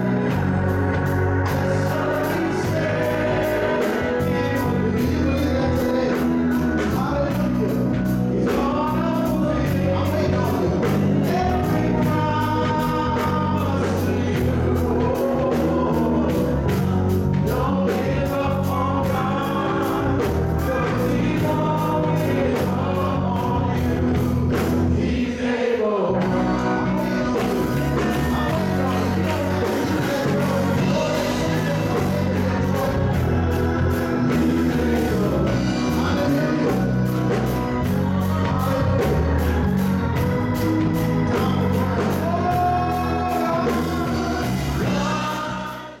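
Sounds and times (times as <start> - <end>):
gospel singing over a beat: 0.0 - 46.0.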